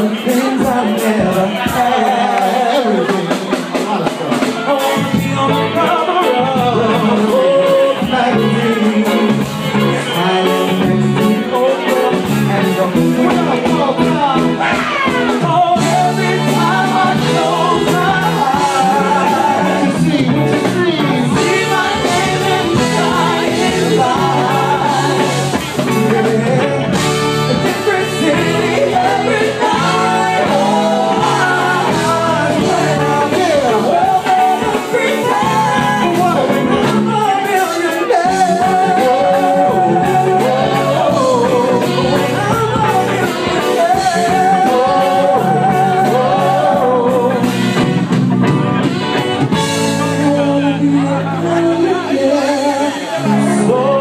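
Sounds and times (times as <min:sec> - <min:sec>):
drums: 0:00.0 - 0:54.0
keyboards: 0:00.0 - 0:54.0
person singing into a microphone: 0:00.0 - 0:54.0.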